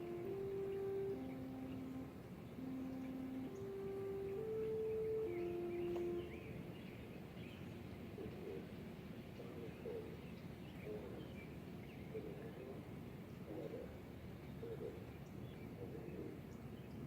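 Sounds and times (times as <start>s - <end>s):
birds chirping and cooing: 0.0s - 17.0s
low background noise: 0.0s - 17.0s.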